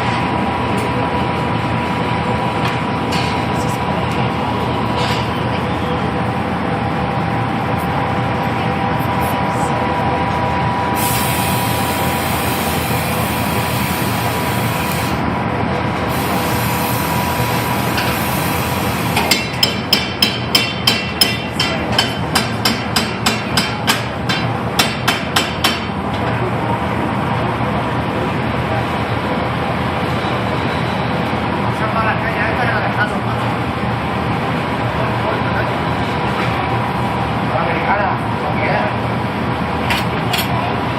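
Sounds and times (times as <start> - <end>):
furnace roar: 0.0 - 40.9.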